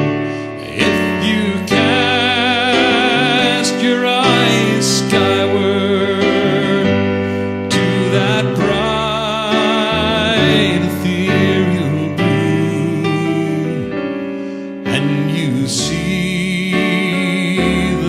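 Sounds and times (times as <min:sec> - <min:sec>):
gentle music with singing: 0:00.0 - 0:18.0.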